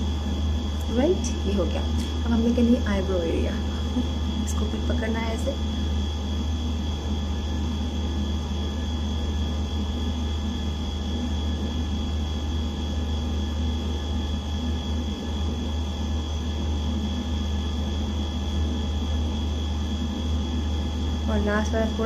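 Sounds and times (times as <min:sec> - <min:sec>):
faint high whine: 0:00.0 - 0:22.0
low background hum: 0:00.0 - 0:22.0.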